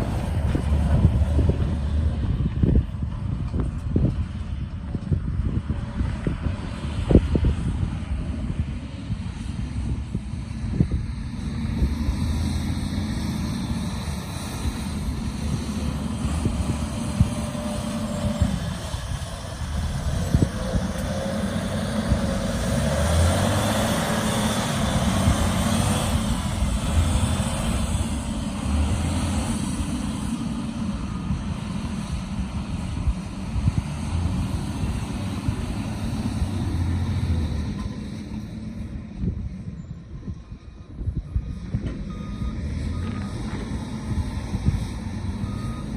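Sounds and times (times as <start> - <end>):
dump truck diesel engine drone: 0.0 - 45.9.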